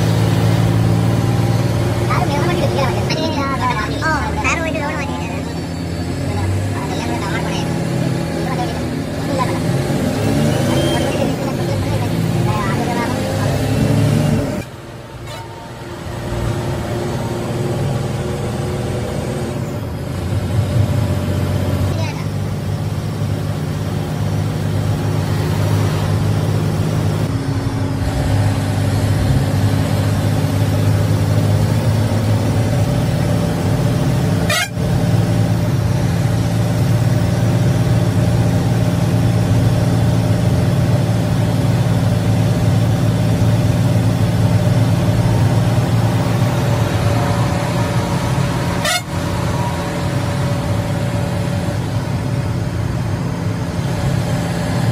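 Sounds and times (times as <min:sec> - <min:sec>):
diesel bus engine running: 0:00.0 - 0:54.9.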